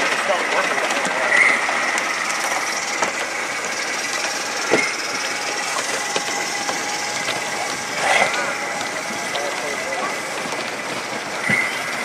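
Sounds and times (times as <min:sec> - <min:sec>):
model train whine: 0:00.0 - 0:12.0
sharp track clicks: 0:00.0 - 0:12.0.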